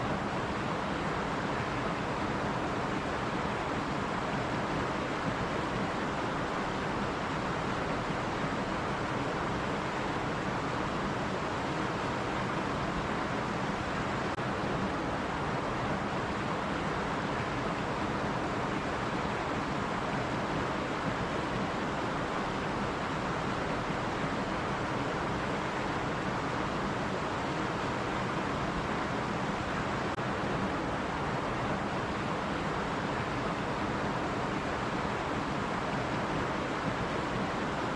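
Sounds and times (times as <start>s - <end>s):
stream water rushing: 0.0s - 37.9s.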